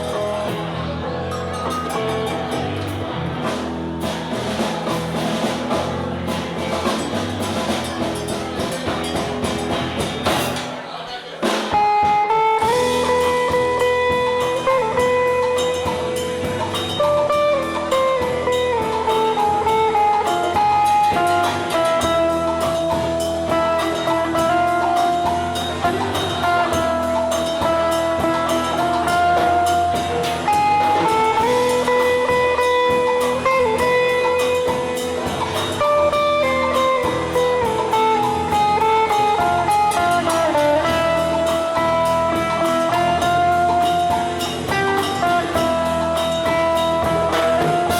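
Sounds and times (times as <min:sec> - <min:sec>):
guitar melody: 0:00.0 - 0:10.8, 0:11.7 - 0:47.9
drum kit: 0:00.0 - 0:47.9.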